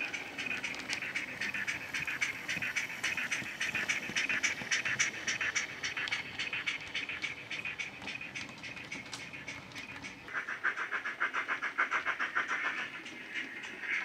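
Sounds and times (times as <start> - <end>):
simulated steam exhaust chuffs: 0.0 - 14.0.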